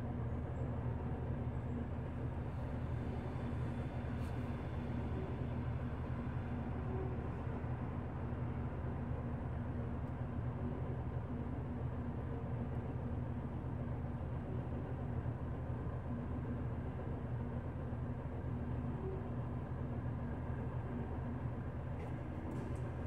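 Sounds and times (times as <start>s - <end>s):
bus engine low drone: 0.0s - 23.0s.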